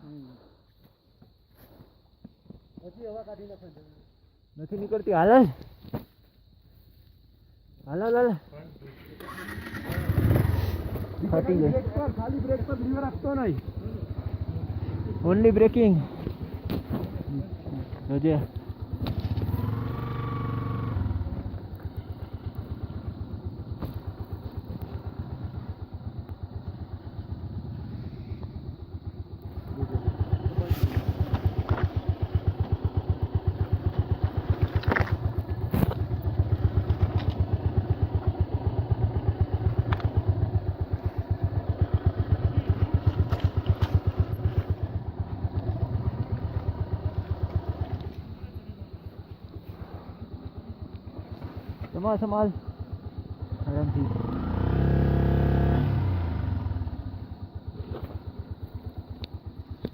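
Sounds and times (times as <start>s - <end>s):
motorcycle engine running: 9.2s - 59.9s.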